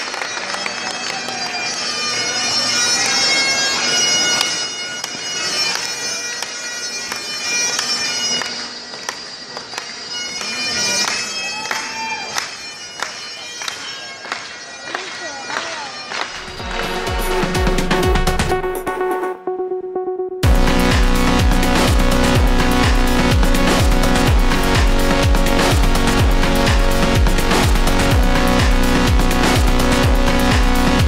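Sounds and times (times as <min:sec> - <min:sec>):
bagpipes playing a tune: 0:00.0 - 0:18.7, 0:20.4 - 0:31.0.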